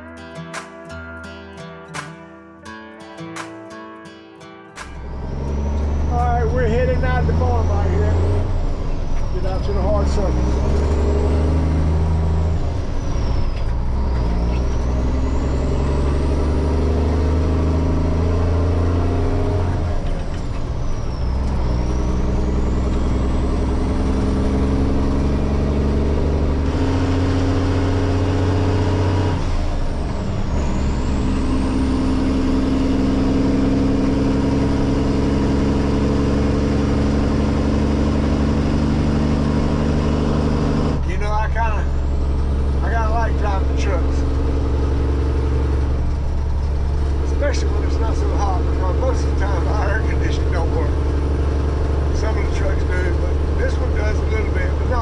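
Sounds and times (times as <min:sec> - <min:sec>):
truck diesel engine shifting gears: 0:04.8 - 0:55.0.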